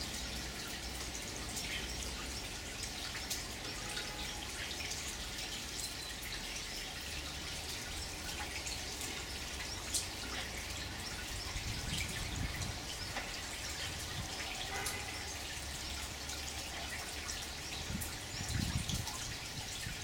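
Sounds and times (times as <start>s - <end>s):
water dripping: 0.0s - 20.0s
water trickling over stone: 0.0s - 20.0s.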